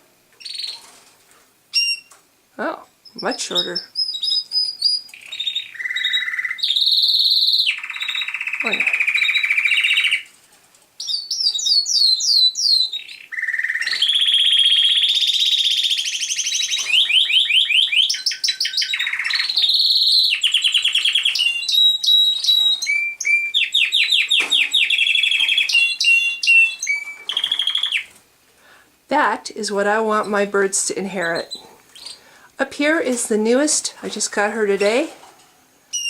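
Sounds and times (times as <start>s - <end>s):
canary singing trills: 0.4s - 1.0s, 1.7s - 10.3s, 11.0s - 28.2s, 29.6s - 32.4s.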